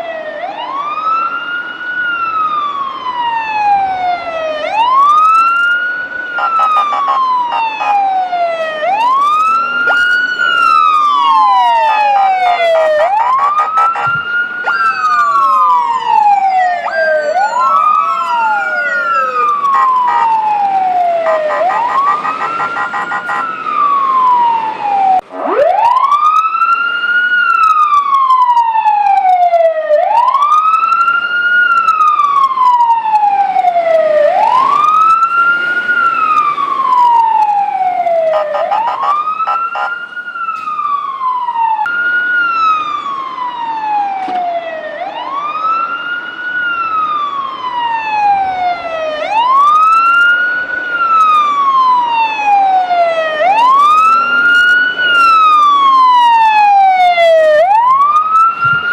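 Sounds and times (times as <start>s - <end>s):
fire truck siren wailing: 0.0s - 58.9s.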